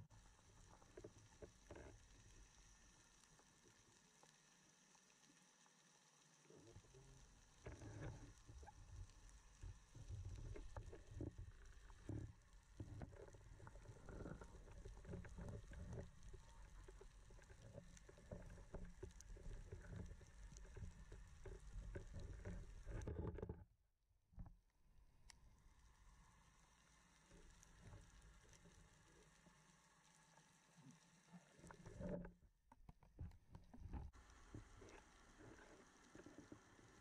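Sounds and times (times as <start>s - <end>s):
underwater rumble of moving water: 0.0s - 23.7s, 25.6s - 37.0s.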